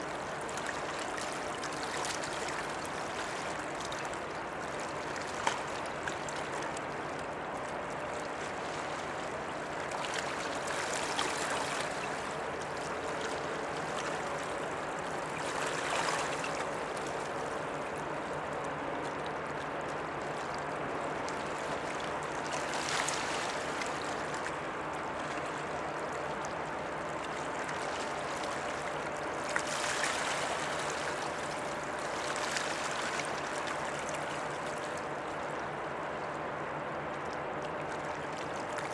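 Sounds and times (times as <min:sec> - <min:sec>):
water lapping against riverbank: 0:00.0 - 0:38.9.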